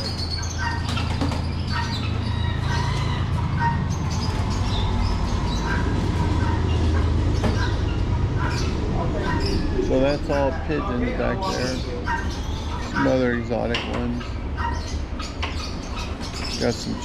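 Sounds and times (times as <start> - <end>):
caged birds chirping: 0.0 - 17.0
steady low rumble: 0.0 - 17.0.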